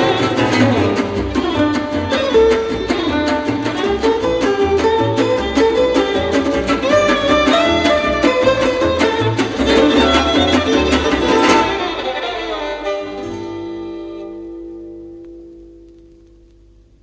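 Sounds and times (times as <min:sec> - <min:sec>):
gypsy jazz string band playing: 0:00.0 - 0:16.3.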